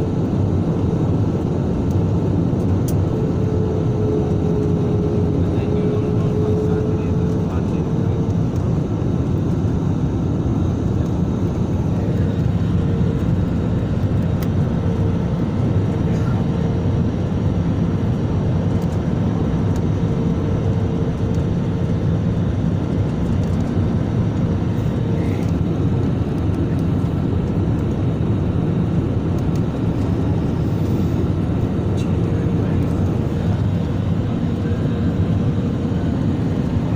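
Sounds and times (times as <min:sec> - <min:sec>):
airliner engine rumble: 0:00.0 - 0:36.9.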